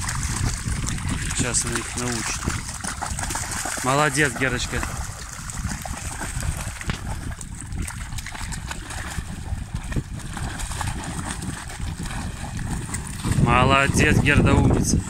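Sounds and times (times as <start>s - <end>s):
dogs splashing in shallow water: 0.0s - 15.0s.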